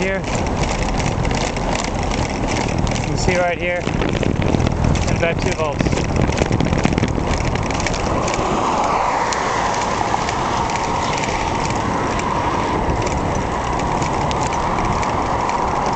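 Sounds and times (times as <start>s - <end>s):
bicycle road noise: 0.0s - 15.9s
light clicks and rattles: 0.0s - 15.9s
wind rushing over microphone: 0.0s - 15.9s.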